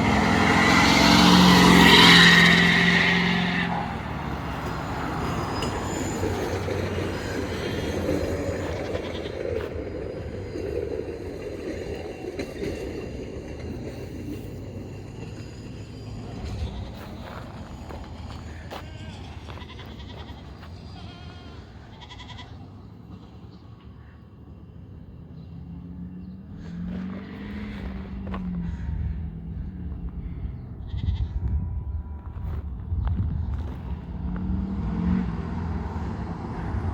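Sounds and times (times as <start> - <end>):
diesel engine rumbling: 0.0 - 36.9.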